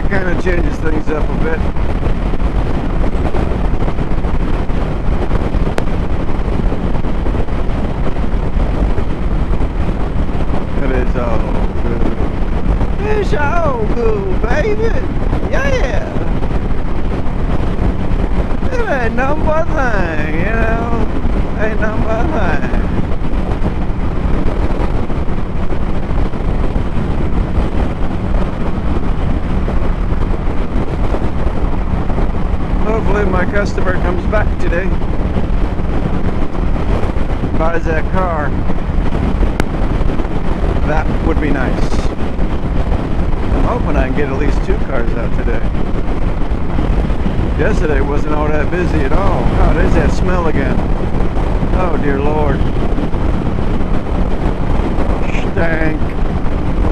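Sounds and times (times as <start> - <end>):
motorcycle engine and road drone: 0.0 - 56.9
wind rushing over microphone: 0.0 - 56.9.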